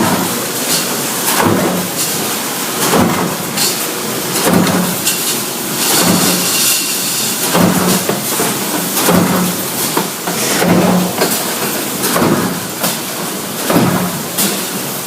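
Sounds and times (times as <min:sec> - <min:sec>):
constant mechanical din: 0:00.0 - 0:15.0
factory machinery cycling: 0:00.0 - 0:15.0.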